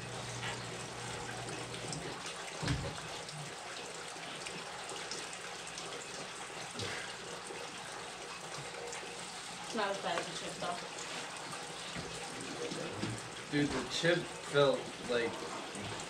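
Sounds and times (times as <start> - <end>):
aquarium filter running water: 0.0 - 16.0.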